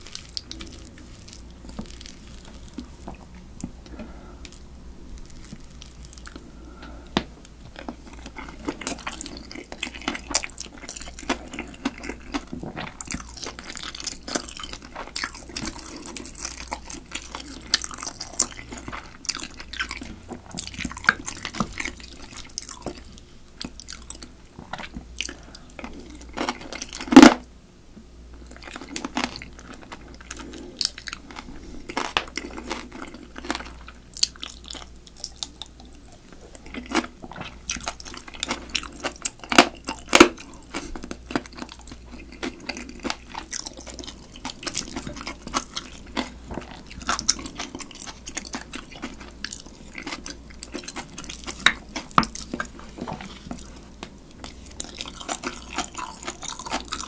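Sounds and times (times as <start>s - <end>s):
chewing crunchy crab shell: 0.0s - 7.0s, 7.6s - 27.4s, 28.4s - 57.0s.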